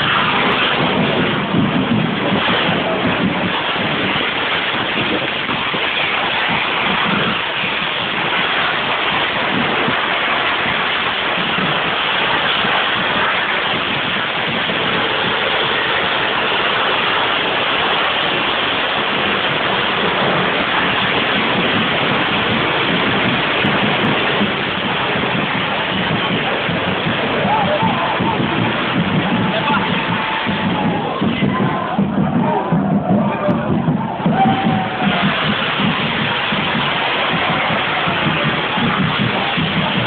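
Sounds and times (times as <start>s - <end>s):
fireworks rushing hiss: 0.0s - 40.0s.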